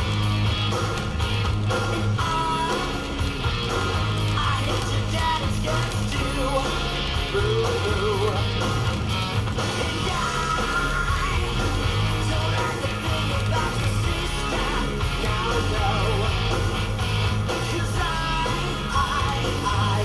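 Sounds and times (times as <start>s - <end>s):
rock song on car radio: 0.0s - 20.0s.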